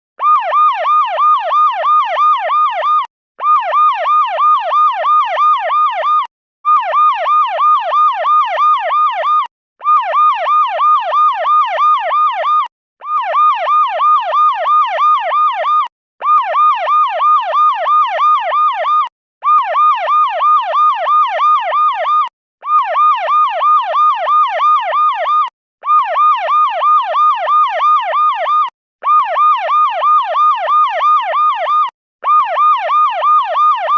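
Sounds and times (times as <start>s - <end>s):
police siren warbling: 0.2s - 33.9s.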